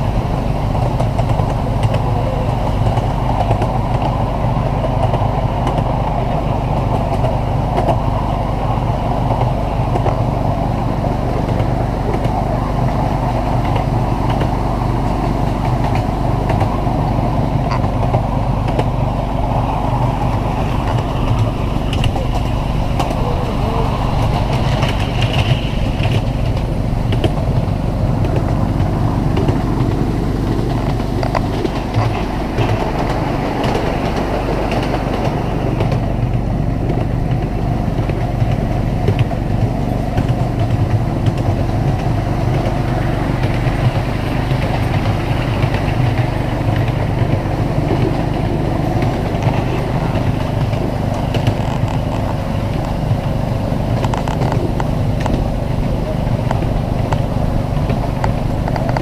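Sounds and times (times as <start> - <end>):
small locomotive engine: 0.0 - 59.0
wheels rumbling on rails: 0.0 - 59.0.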